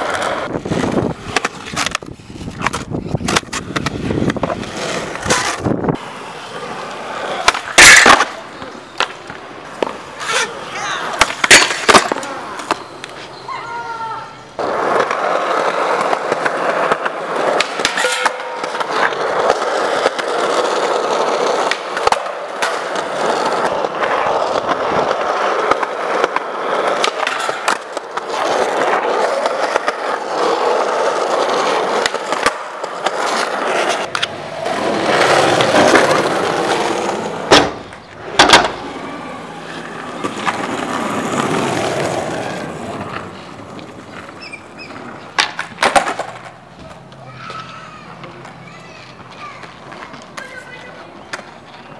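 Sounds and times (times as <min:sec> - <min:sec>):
skateboard clacks: 0:00.0 - 0:13.4, 0:14.6 - 0:51.9
skateboard wheels rolling on concrete: 0:00.0 - 0:51.9.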